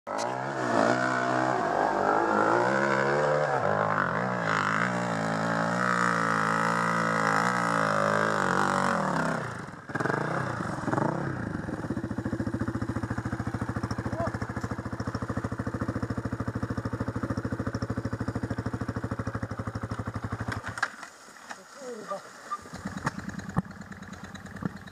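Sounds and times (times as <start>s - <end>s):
dirt bike engine revving: 0.1s - 20.8s, 22.6s - 24.9s.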